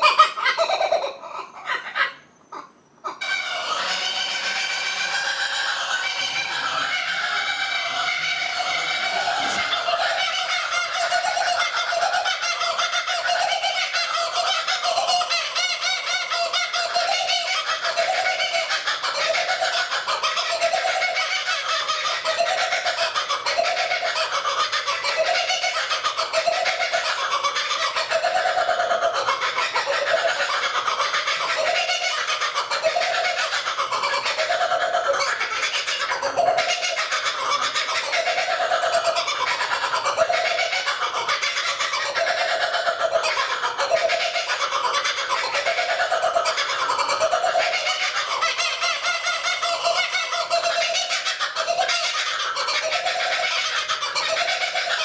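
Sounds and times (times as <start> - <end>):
kookaburras laughing: 0.0 - 55.0
overlapping bird chattering: 0.0 - 55.0.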